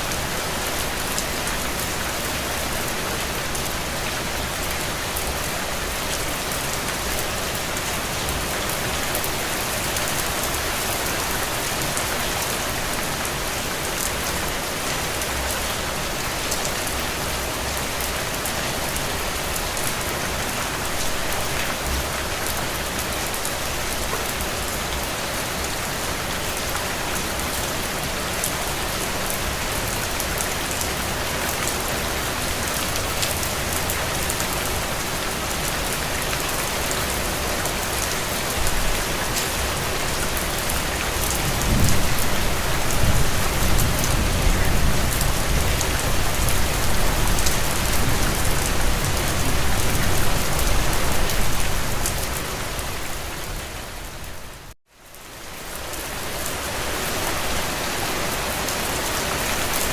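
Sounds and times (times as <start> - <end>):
rain on a window: 0.0 - 53.0.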